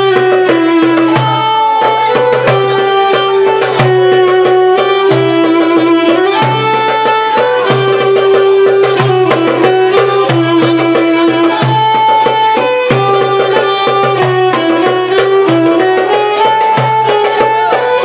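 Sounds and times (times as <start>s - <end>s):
steady drum beat: 0.0s - 18.0s
violin melody: 0.0s - 18.0s.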